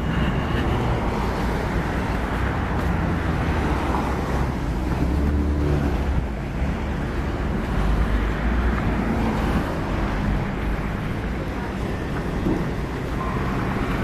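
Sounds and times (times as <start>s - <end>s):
cars driving on wet road: 0.0s - 14.0s.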